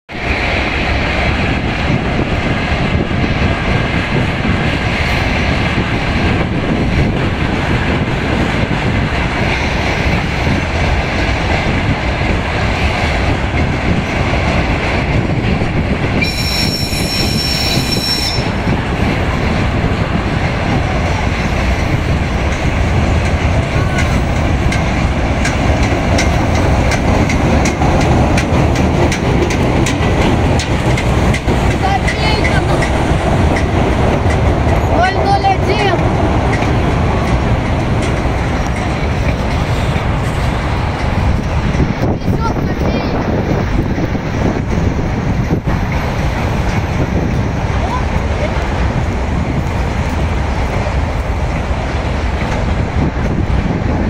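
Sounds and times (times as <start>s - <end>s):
diesel locomotive rumbling on rails: 0.1s - 54.0s.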